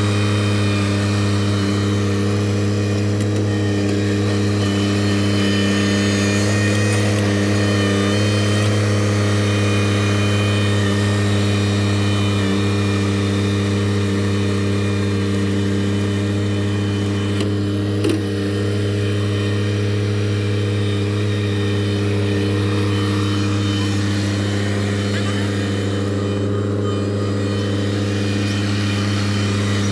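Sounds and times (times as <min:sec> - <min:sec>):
engine droning steadily: 0:00.0 - 0:29.9.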